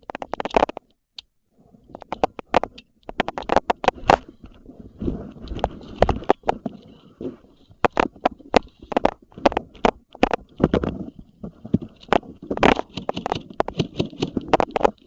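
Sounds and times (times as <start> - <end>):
rustling: 1.5 - 15.0.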